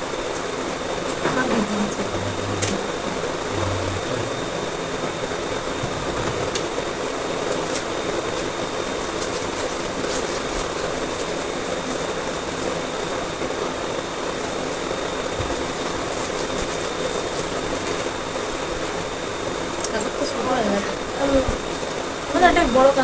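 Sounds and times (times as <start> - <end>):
faint high whine: 0.0 - 23.0
machine whirring: 0.0 - 23.0.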